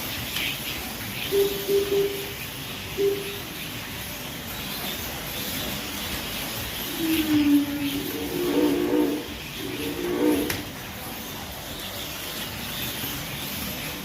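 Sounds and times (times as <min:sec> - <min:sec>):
low hum-like tones: 0:00.0 - 0:14.0.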